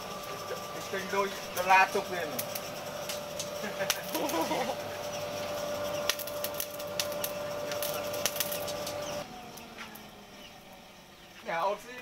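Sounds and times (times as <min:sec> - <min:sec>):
burning coal crackling: 0:00.0 - 0:12.0
forge blower whining: 0:00.0 - 0:12.0.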